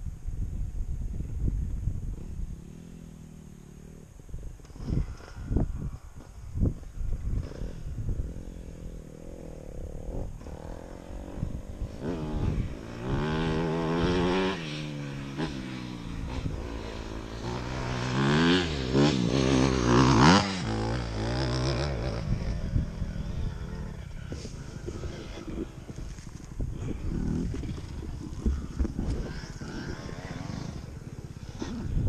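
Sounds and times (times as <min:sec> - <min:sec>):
dirt bike engine revving: 0:02.2 - 0:32.0.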